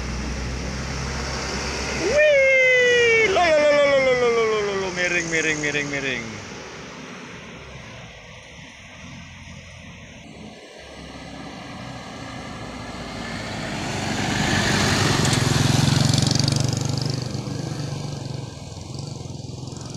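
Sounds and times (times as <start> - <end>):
truck engine passing: 0.0 - 19.9.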